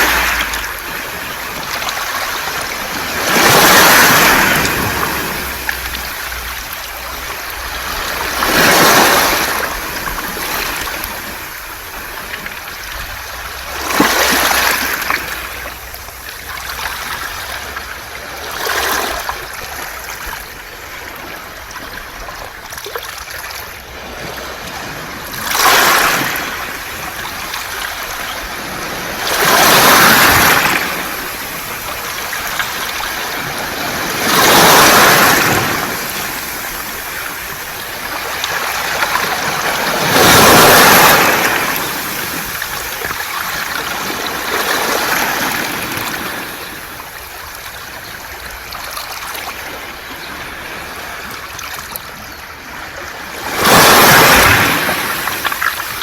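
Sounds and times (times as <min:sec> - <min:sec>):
waves washing over pebbles: 0:00.0 - 0:56.0.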